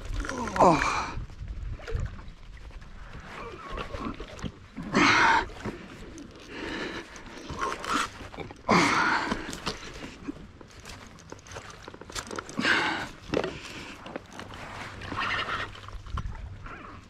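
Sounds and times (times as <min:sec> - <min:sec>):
water noise: 0:00.0 - 0:17.0.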